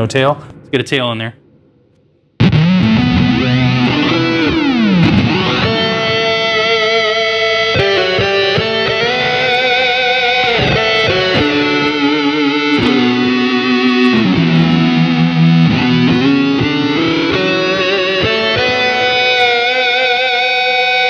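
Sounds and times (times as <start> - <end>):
synth-like fuzz electric guitar: 2.4 - 21.0.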